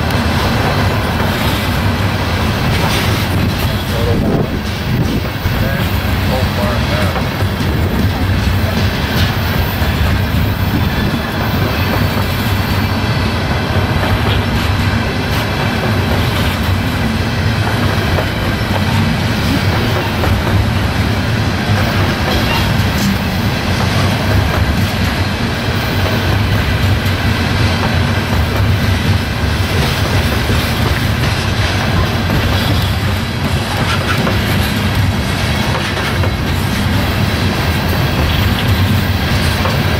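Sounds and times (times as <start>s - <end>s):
freight train wheels rumbling: 0.0s - 39.9s
wheels clacking at rail joints: 0.0s - 39.9s.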